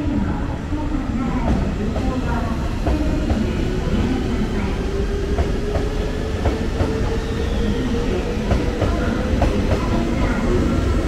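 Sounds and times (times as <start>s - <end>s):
low train rumble: 0.0s - 11.0s.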